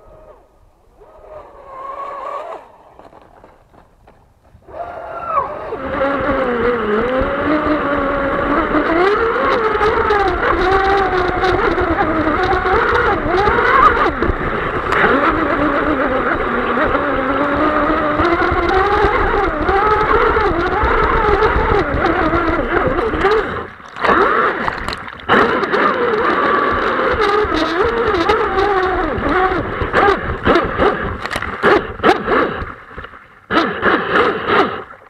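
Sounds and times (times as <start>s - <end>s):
electric motor and propeller whine: 0.0s - 35.0s
rush of water and wind: 4.4s - 35.0s.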